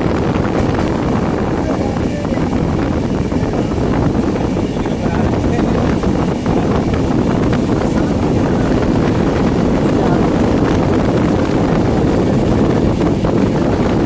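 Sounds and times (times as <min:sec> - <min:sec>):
passenger train rumbling: 0:00.0 - 0:14.0.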